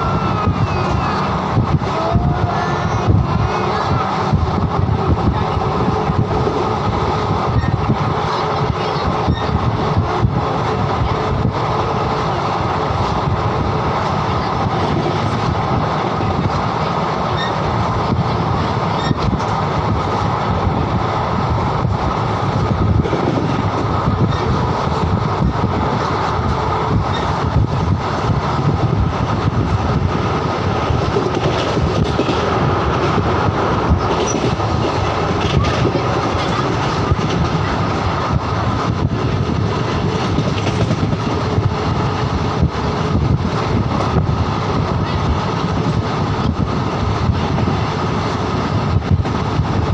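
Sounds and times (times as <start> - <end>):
train rumbling on track: 0.0 - 49.9.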